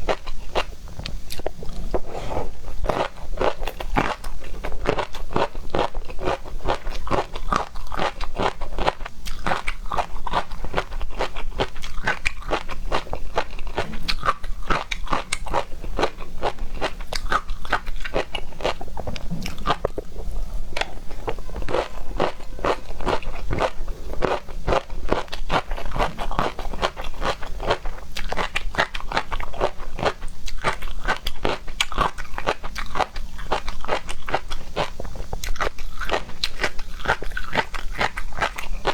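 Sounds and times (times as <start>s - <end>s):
crunching and chewing seafood: 0.0s - 38.9s.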